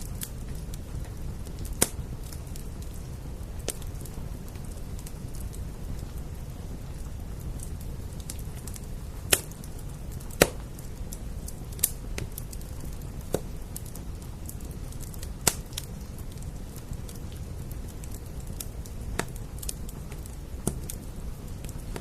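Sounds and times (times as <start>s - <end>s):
rain hissing: 0.0s - 22.0s
wood fire crackling and popping: 0.0s - 22.0s.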